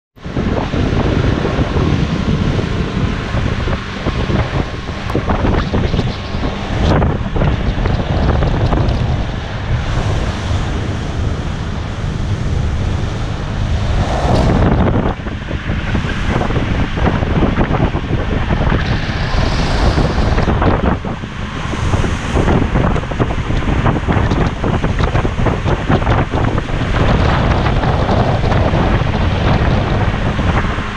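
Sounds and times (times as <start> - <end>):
outboard motor drone: 0.2 - 30.9
water rushing past hull: 0.2 - 30.9
wind buffeting microphone: 0.2 - 30.9.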